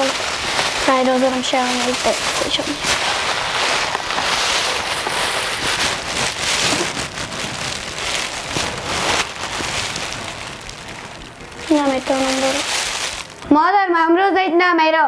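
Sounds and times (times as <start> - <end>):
plastic bag rustling and crinkling: 0.0 - 13.6.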